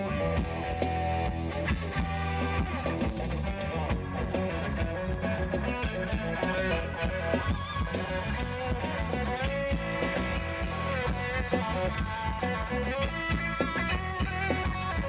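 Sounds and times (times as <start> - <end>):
bass guitar: 0.0 - 15.0
electric guitar: 0.0 - 15.0
steady drum beat: 0.0 - 15.0.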